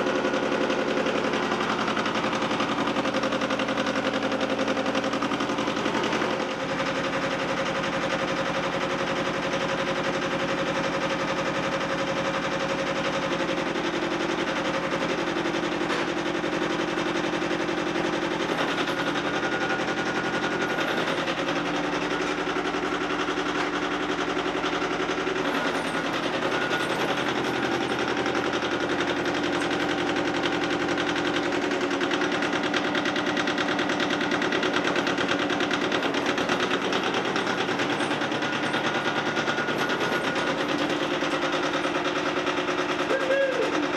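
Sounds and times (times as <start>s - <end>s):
diesel tractor engine running: 0.0s - 43.9s.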